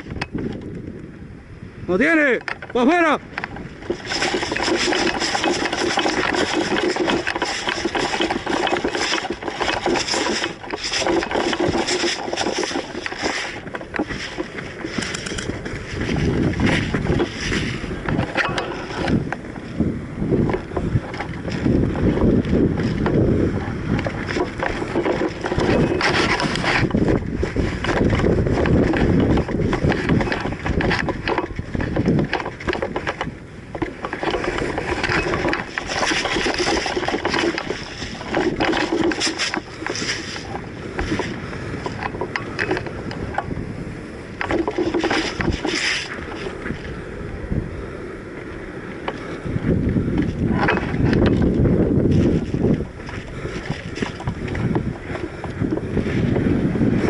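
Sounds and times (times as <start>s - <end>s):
low rumbling: 0.0s - 57.0s
gear and clothing rustling: 3.4s - 57.0s.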